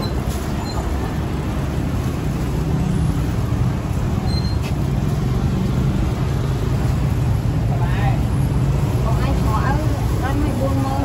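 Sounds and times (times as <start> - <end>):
low rumble of street traffic: 0.0 - 11.0.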